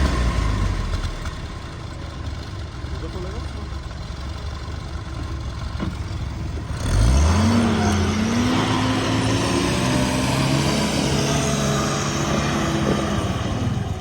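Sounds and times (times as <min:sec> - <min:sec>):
engine rumbling and revving: 0:00.0 - 0:03.7, 0:04.6 - 0:14.0.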